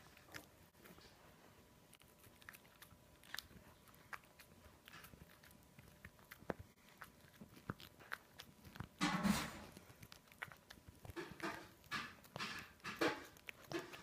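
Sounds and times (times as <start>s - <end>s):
dog gnawing on bone: 0.0s - 1.1s, 1.9s - 14.0s.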